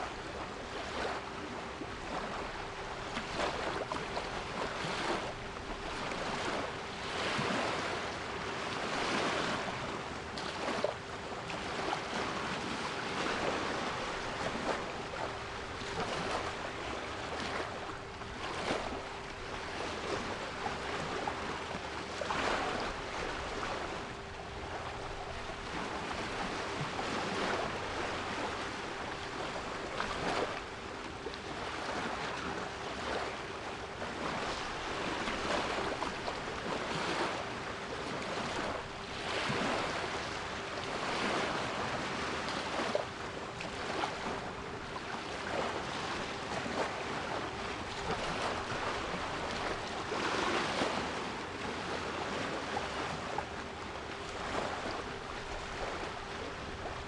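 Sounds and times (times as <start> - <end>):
sea waves washing: 0.0 - 57.0.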